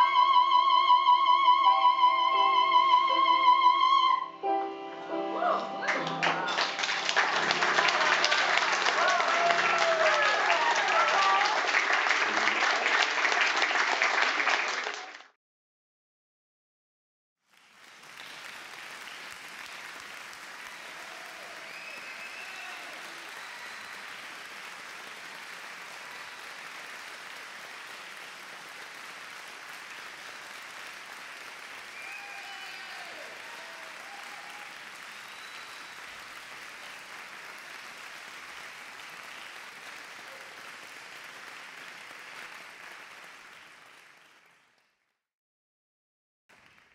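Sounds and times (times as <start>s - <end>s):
audience applauding: 5.4s - 15.3s, 17.5s - 45.0s, 46.5s - 46.9s.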